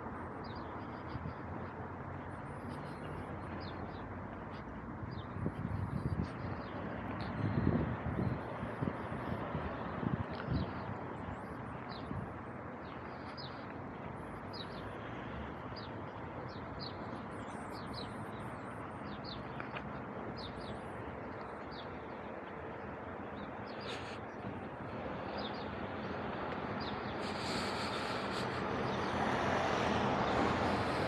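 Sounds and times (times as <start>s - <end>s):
street noise: 0.0s - 31.0s
small birds chirping: 0.4s - 7.6s, 10.3s - 15.0s, 15.6s - 31.0s.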